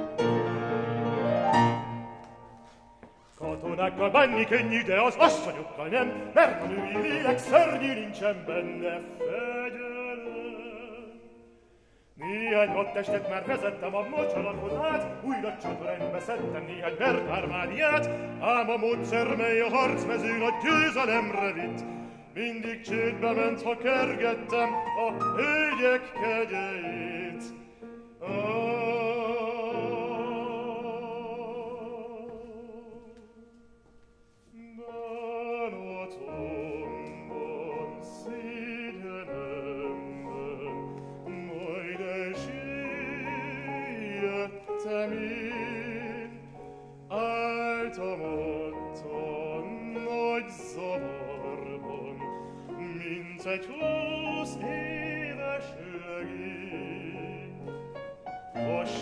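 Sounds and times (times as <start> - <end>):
piano accompaniment: 0.0 - 59.0
man singing operatically: 3.3 - 11.6, 12.2 - 33.6, 34.5 - 59.0.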